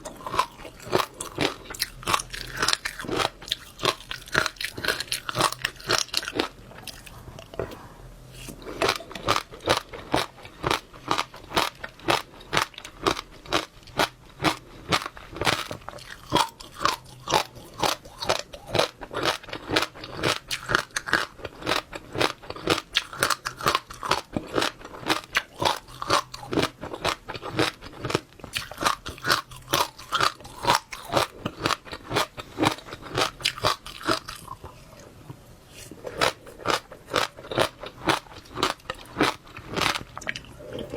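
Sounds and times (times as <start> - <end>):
chewing crunchy seeds: 0.0 - 7.8, 8.4 - 35.1, 35.7 - 40.9.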